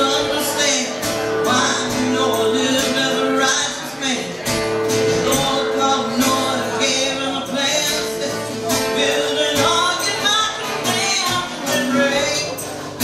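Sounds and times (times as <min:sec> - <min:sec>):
woman singing: 0:00.0 - 0:04.4, 0:05.1 - 0:13.0
acoustic guitar strumming: 0:00.0 - 0:13.0.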